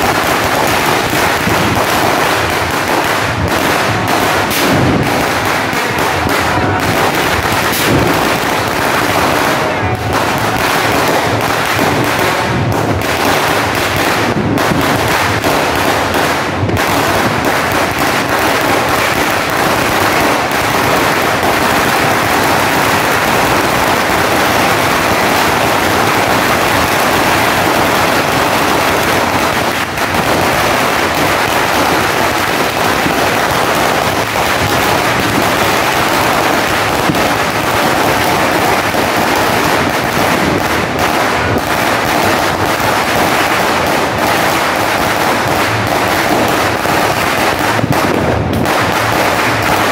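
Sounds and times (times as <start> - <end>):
firecracker belt crackling: 0.0 - 49.9.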